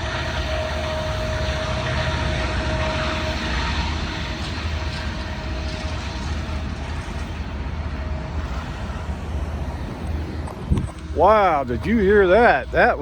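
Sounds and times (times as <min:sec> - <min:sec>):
diesel locomotives rumbling: 0:00.0 - 0:13.0
train wheels rolling on rails: 0:00.0 - 0:13.0.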